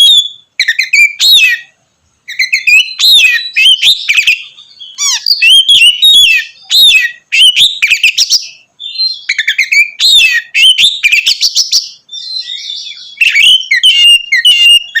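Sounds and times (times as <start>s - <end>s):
bird singing whistled phrases: 0.0s - 15.0s
bird chattering notes: 2.3s - 15.0s.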